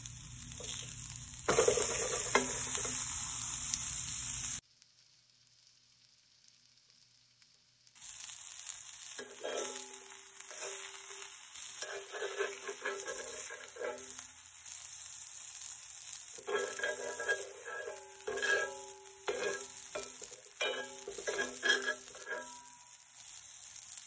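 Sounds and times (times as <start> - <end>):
burger sizzling in skillet: 0.0 - 24.0.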